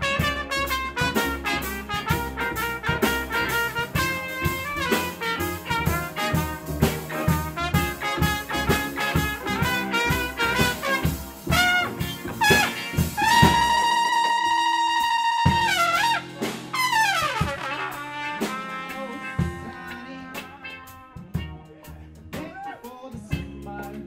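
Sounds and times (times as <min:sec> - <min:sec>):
drum kit: 0:00.0 - 0:24.0
keyboards: 0:00.0 - 0:24.0
upright bass: 0:00.0 - 0:24.0.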